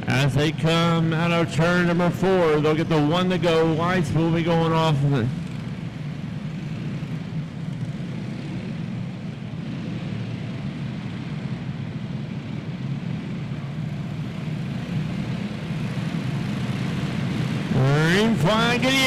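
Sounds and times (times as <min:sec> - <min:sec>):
kart engines running: 0:00.0 - 0:19.0.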